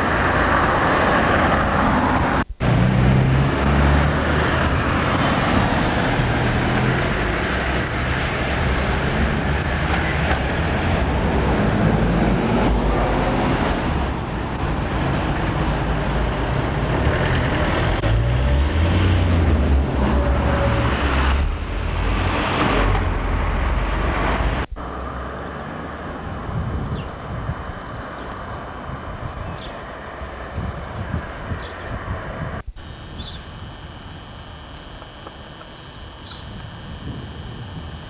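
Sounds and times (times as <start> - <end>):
passing cars rumble: 0.0 - 32.6.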